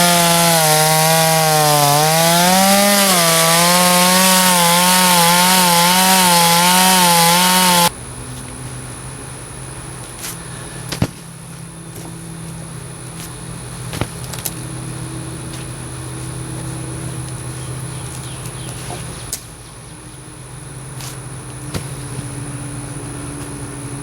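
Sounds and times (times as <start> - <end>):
chainsaw engine idling: 0.0 - 24.0.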